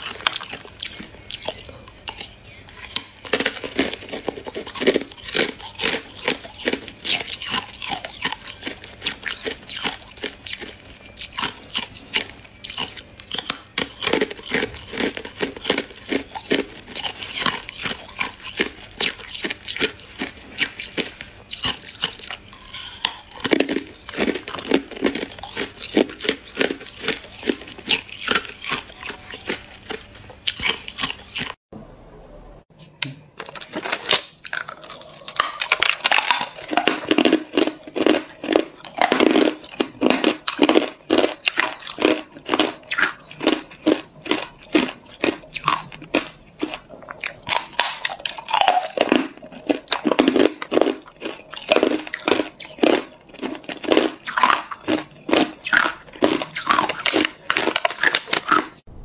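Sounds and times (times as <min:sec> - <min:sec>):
ice crunching being chewed: 0:00.0 - 0:31.6, 0:33.4 - 0:58.9.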